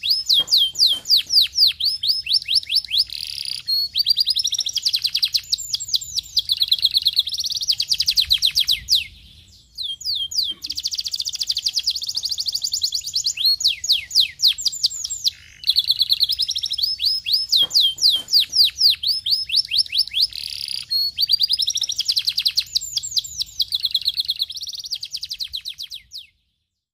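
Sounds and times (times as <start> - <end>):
canary singing trills: 0.0 - 26.6.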